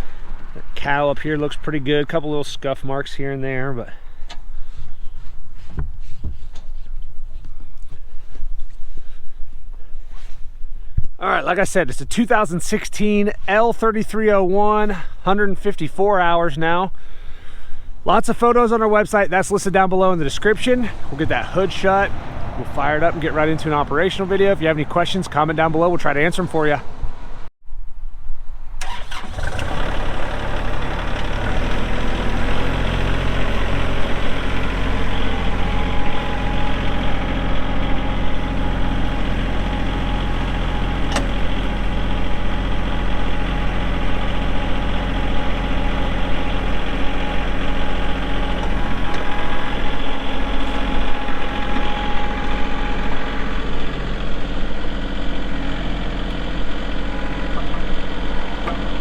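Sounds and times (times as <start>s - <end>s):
tractor diesel engine running: 0.0s - 5.8s, 13.8s - 26.8s, 28.8s - 59.0s.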